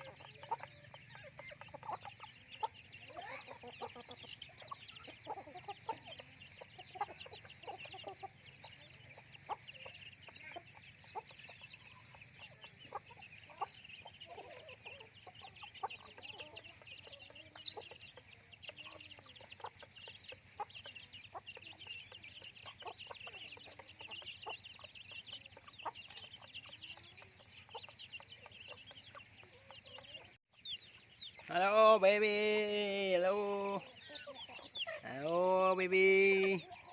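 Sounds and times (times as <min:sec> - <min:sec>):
chickens clucking: 0:00.0 - 0:36.9
high-pitched chirping: 0:00.0 - 0:36.9.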